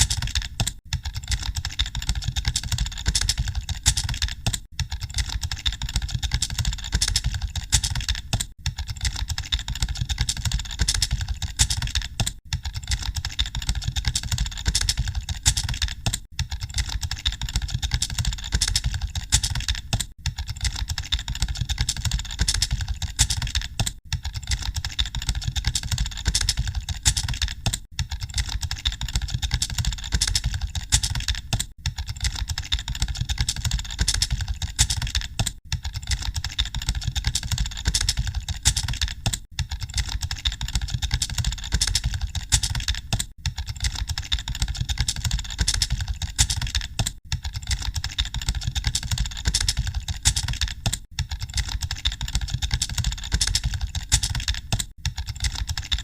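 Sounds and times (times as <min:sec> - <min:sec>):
keyboards clattering: 0:00.0 - 0:39.4, 0:40.0 - 0:56.0.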